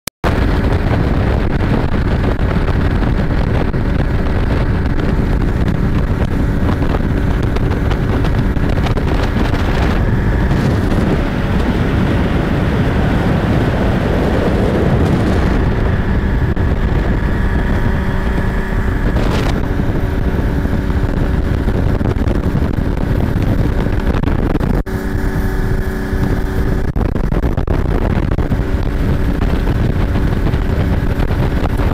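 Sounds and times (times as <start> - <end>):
boat motor running: 0.2 - 31.9
wind buffeting microphone: 0.2 - 31.9
water rushing off hull: 0.3 - 31.9.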